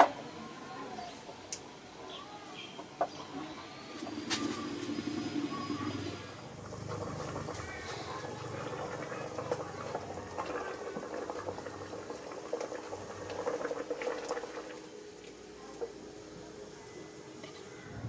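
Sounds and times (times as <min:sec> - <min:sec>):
water boiling in a pot: 0:02.8 - 0:17.4.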